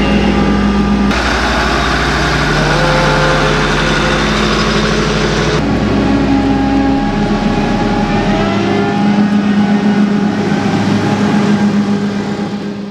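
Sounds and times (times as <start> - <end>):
combine harvester engine passing: 0.0 - 12.9
tractor diesel engine passing: 0.0 - 12.9.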